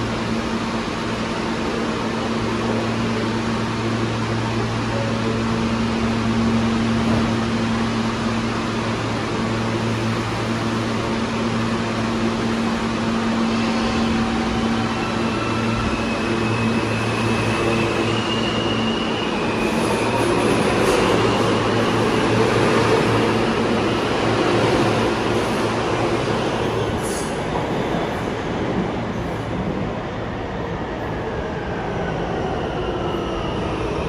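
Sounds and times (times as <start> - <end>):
subway train rumble: 0.0 - 34.0.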